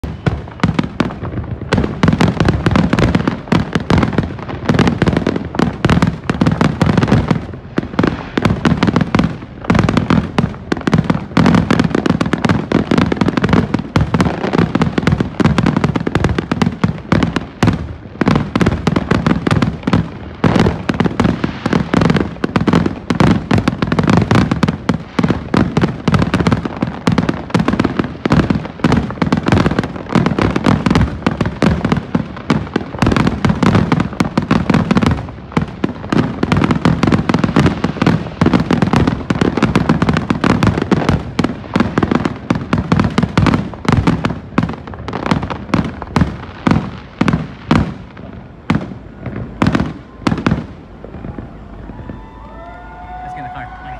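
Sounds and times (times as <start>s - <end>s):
fireworks booming: 0.0s - 53.9s.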